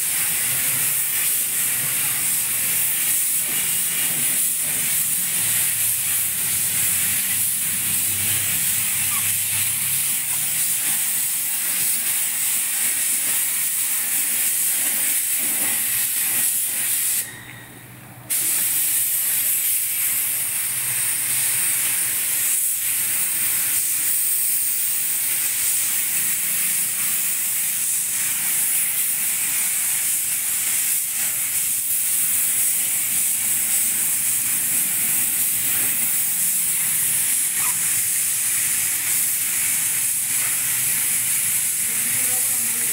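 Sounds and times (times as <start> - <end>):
paint spray gun hissing: 0.0 - 17.3, 18.3 - 42.9.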